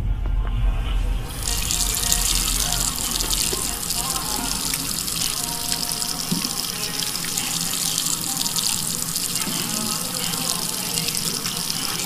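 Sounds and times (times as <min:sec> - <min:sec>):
faint music: 0:00.0 - 0:12.0.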